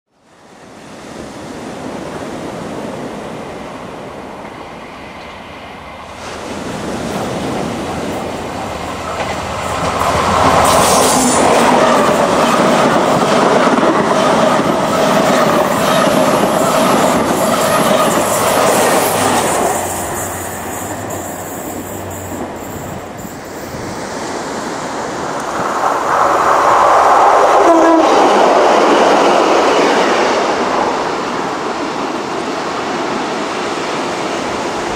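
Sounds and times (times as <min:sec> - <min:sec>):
train passing at speed: 0:00.2 - 0:34.9
diesel train passing: 0:00.3 - 0:34.9.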